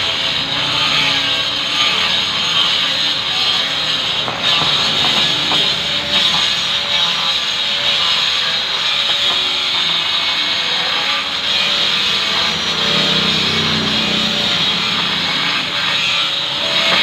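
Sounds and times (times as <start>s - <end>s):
power tool hissing on stone: 0.0s - 17.0s.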